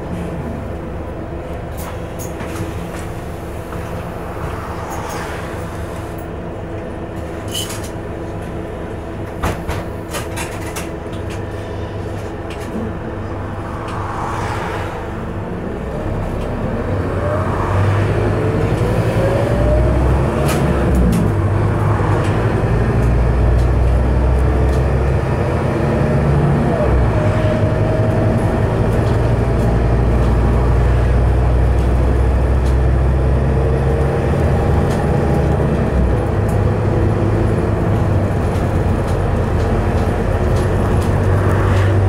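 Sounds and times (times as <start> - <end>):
bus engine running: 0.0 - 42.0.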